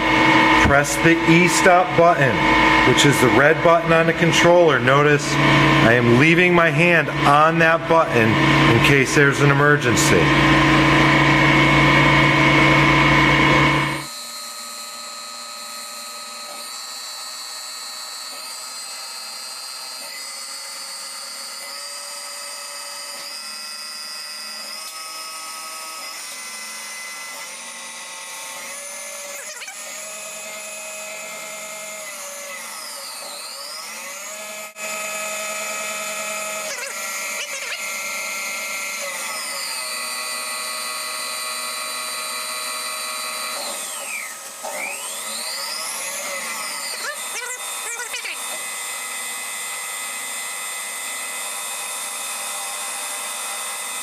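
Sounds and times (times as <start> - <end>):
lathe drives whining: 0.0 - 54.0.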